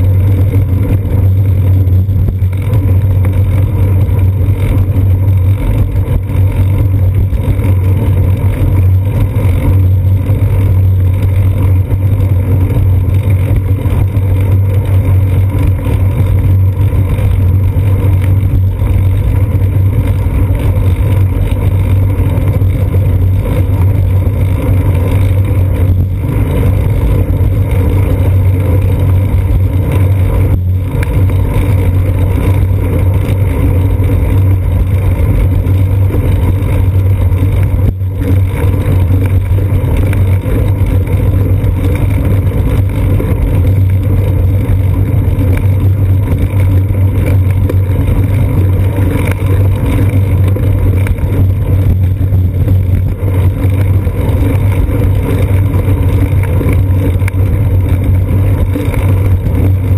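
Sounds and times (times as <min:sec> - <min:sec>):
bicycle rolling on concrete: 0:00.0 - 0:59.9.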